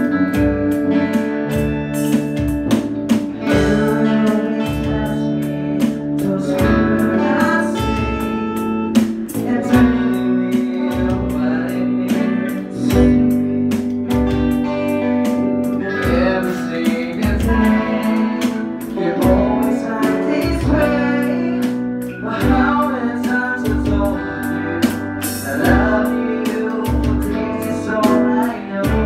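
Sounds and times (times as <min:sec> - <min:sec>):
person singing into microphone: 0:00.0 - 0:02.6, 0:03.3 - 0:29.0
drum beat: 0:00.0 - 0:29.0
electric guitars: 0:00.0 - 0:29.0.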